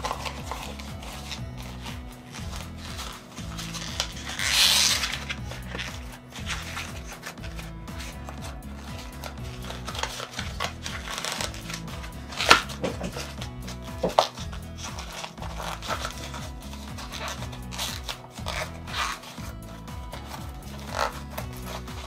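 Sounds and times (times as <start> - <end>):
background music: 0.0 - 22.0
leather wallet rubbing: 0.0 - 22.0.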